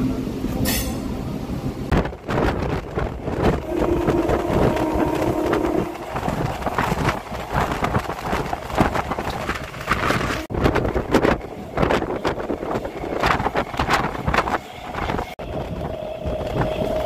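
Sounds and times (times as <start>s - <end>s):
train wheels rumbling on track: 0.0s - 17.0s
wind buffeting microphone: 1.5s - 17.0s.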